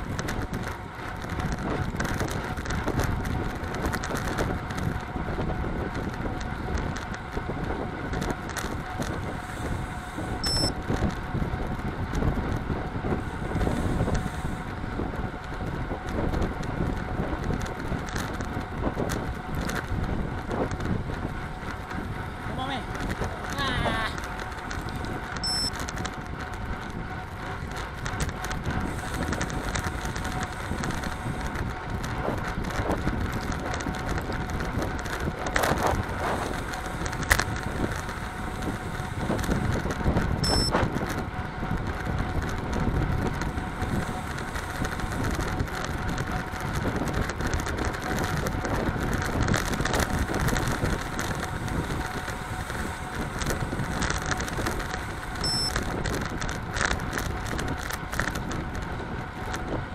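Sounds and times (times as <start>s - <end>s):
bicycle tyres humming on asphalt: 0.0s - 59.9s
wind rush on microphone: 0.0s - 59.9s.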